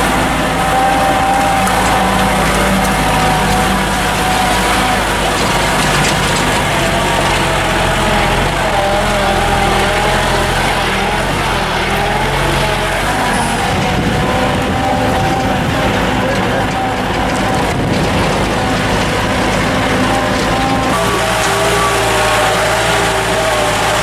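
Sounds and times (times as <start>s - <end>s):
continuous wavering whine: 0.0s - 24.0s
vehicle engine running under load: 0.0s - 24.0s.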